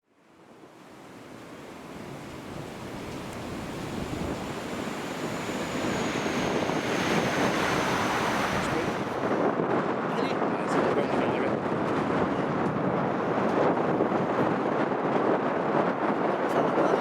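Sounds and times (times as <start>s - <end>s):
wind buffeting microphone: 0.4s - 17.0s.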